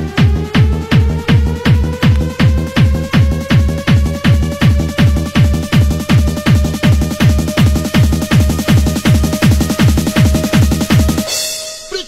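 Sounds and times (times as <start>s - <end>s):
techno kick drum: 0.0s - 11.4s.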